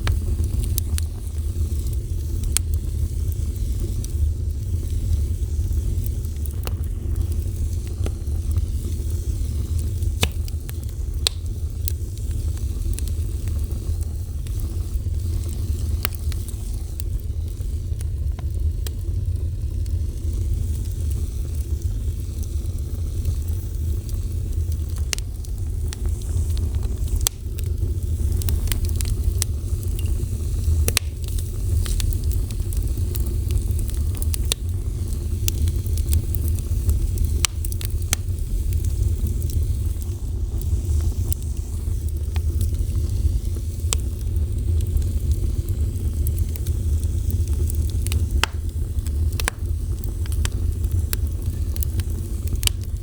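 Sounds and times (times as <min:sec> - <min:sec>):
fire crackling and popping: 0:00.0 - 0:53.0
fire roaring: 0:00.0 - 0:53.0.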